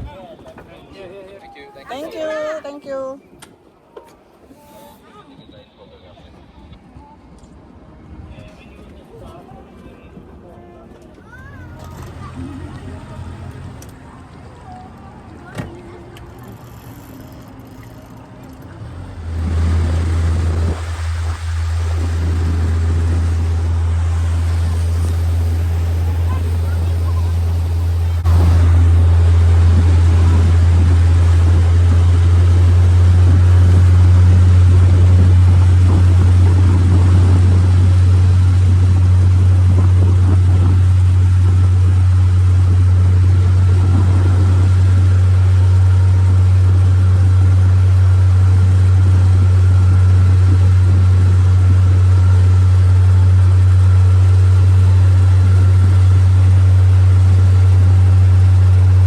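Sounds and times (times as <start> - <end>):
boat engine humming: 10.2 - 59.0.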